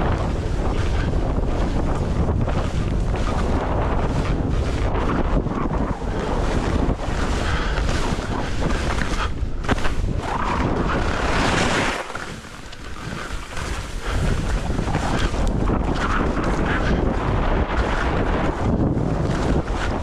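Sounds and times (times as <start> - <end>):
skis scraping over snow: 0.0 - 20.0
wind rushing over microphone: 0.0 - 20.0.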